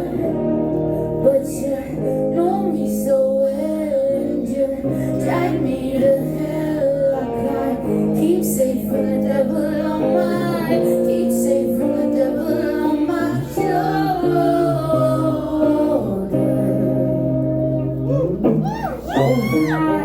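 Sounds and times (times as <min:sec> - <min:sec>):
woman singing: 0:00.0 - 0:18.0, 0:19.0 - 0:20.0
soft live band music: 0:00.0 - 0:20.0.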